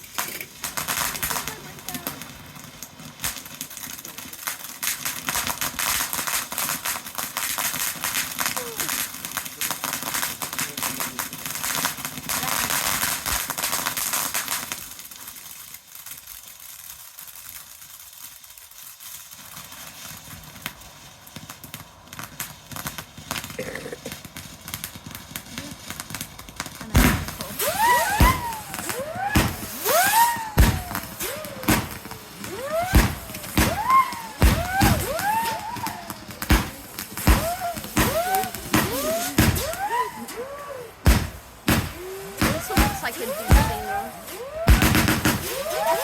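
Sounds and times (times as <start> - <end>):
sharp firework bangs: 0.0 - 14.9, 21.4 - 46.0
fireworks crackling and popping: 0.0 - 46.0
whistling fireworks: 0.0 - 46.0.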